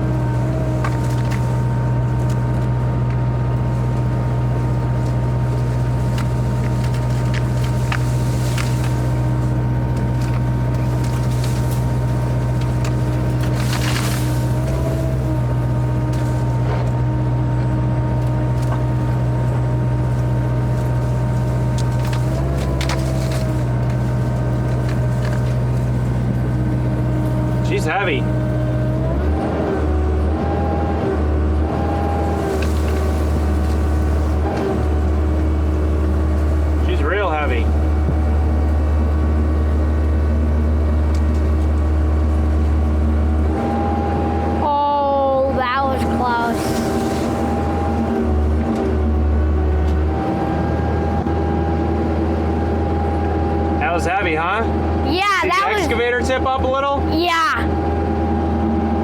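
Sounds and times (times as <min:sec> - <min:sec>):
diesel engine running: 0:00.0 - 0:59.0
hydraulic whine: 0:00.0 - 0:59.0.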